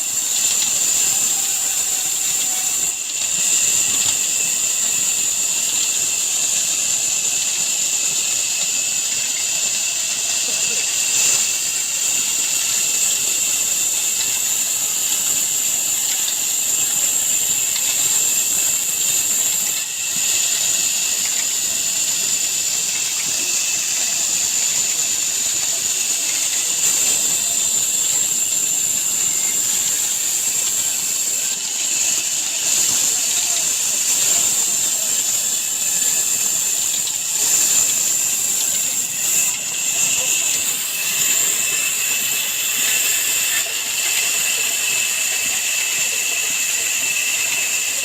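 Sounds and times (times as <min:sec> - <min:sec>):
wood-cutting saw machine whine: 0:00.0 - 0:48.0.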